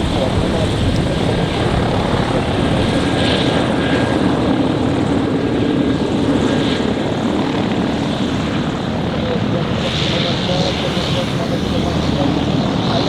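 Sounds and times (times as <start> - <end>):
turboprop engine running: 0.0 - 13.0.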